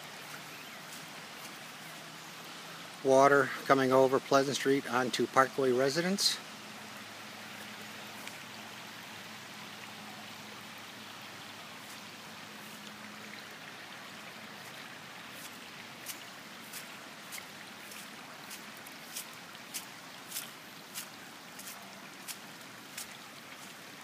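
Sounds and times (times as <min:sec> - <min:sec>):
floodwater flowing: 0:00.0 - 0:24.0.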